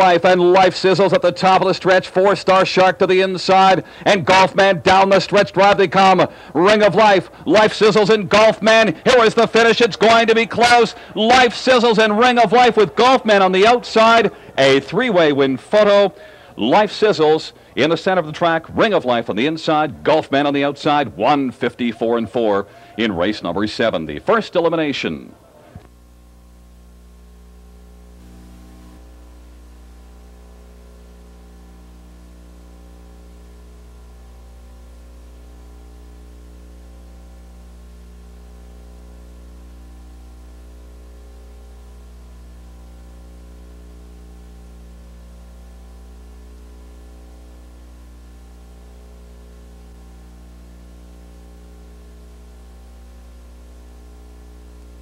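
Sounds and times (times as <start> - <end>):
electrical mains hum: 0.0 - 55.0
line noise hiss: 0.0 - 55.0.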